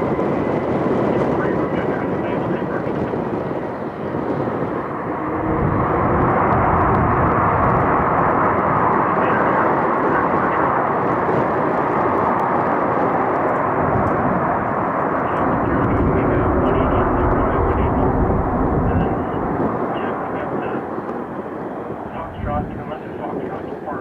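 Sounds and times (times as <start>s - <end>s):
jet engines roaring on landing: 0.0s - 24.0s.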